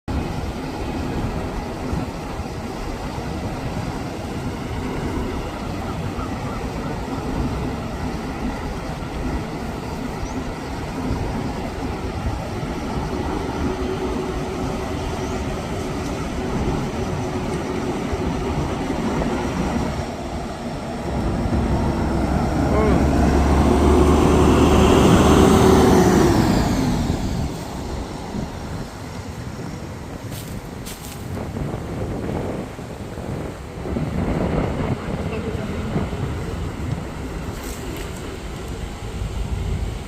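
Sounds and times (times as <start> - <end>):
diesel coach engine rumbling: 0.1 - 40.0.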